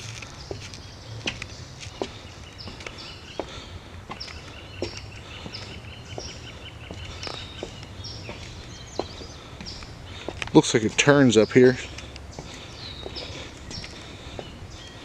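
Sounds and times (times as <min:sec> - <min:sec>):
soft footsteps: 0:00.0 - 0:15.0.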